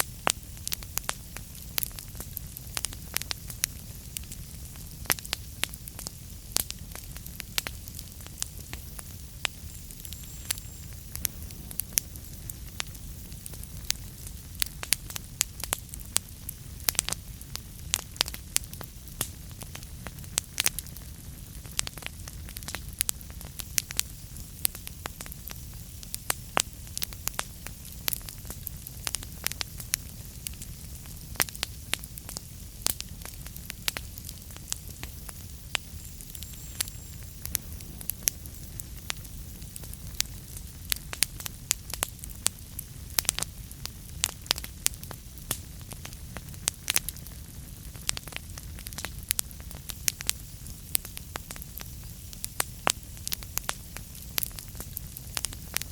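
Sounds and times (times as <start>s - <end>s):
low rumble and hiss of fire: 0.0s - 55.9s
wood fire crackling and popping: 0.0s - 55.9s.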